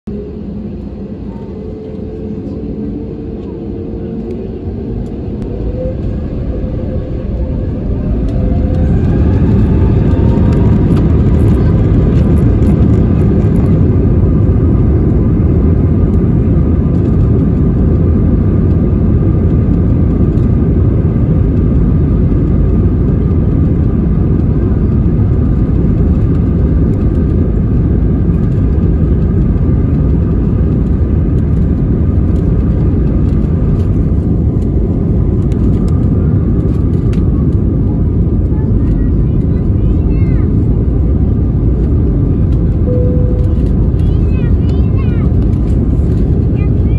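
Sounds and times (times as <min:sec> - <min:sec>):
jet engines spooling up: 0:00.3 - 0:38.5.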